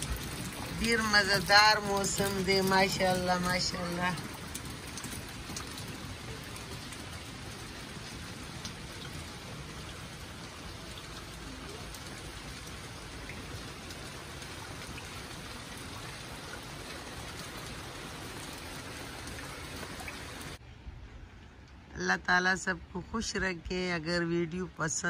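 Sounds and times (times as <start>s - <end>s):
heavy rain: 0.0s - 21.8s.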